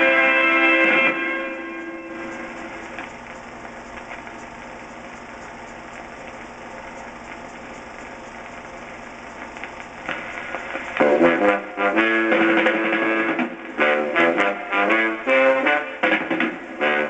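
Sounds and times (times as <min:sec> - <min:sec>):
old film soundtrack hiss and crackle: 0:00.0 - 0:17.0.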